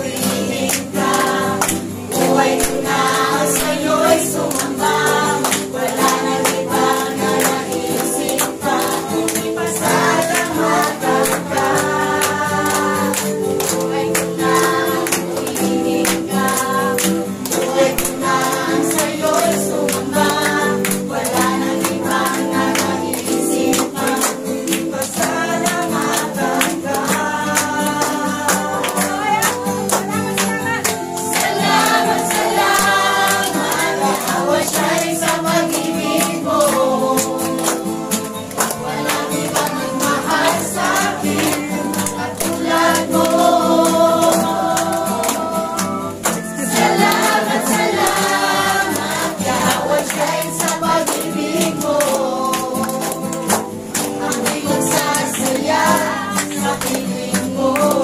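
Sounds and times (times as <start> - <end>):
congregation singing praise song: 0.0 - 58.0
hand clapping on the beat: 0.0 - 58.0.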